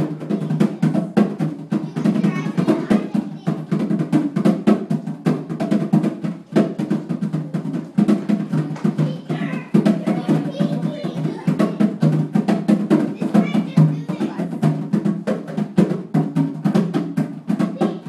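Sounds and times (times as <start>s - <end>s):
hand drums played fast: 0.0s - 18.0s.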